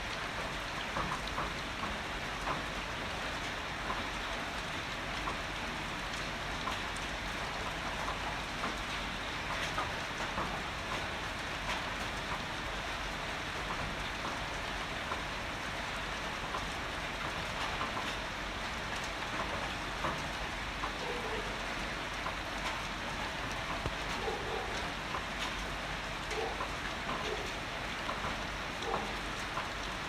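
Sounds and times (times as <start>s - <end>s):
heavy rain: 0.0s - 30.0s
raindrops ticking close: 0.0s - 30.0s.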